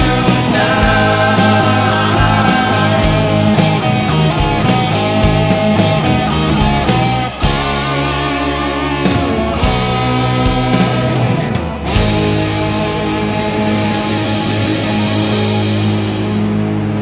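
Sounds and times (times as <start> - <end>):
bass: 0.0 - 17.0
distorted guitars: 0.0 - 17.0
rock drums: 0.0 - 17.0.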